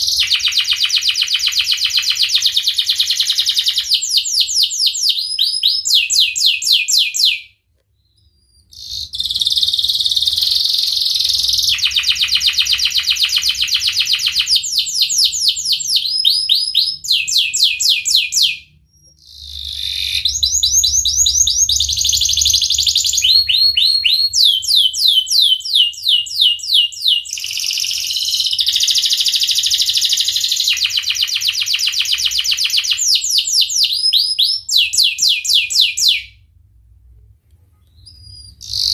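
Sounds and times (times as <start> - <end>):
canary singing trills: 0.0 - 36.3, 37.9 - 38.9.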